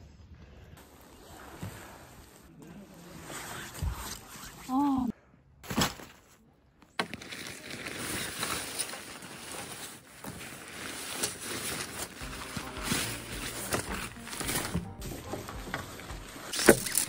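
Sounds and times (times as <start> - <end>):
nylon tent fabric rustling: 0.8 - 5.1, 7.0 - 17.0.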